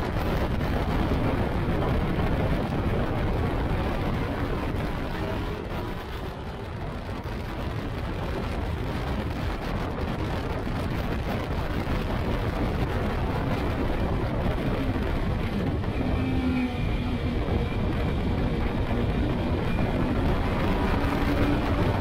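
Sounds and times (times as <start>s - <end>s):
dense rushing noise: 0.0s - 22.0s.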